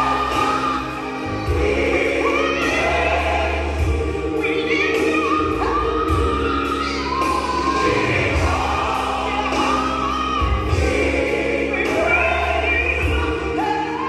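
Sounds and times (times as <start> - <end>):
beat and bass: 0.0 - 14.0
choir singing gospel song: 0.0 - 14.0.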